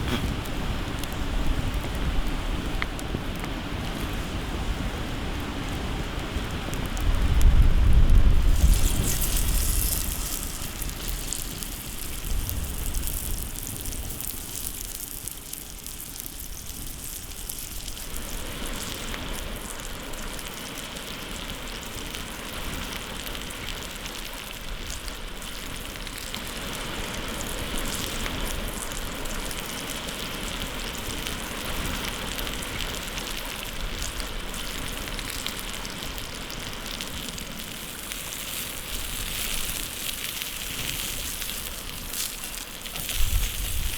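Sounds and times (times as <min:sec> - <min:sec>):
food sizzling in hot oil: 0:03.8 - 0:43.9.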